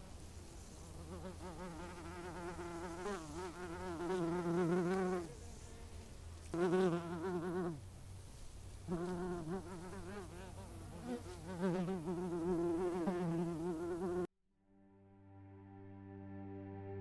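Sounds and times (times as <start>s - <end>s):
flying insect buzzing: 0.0s - 14.3s.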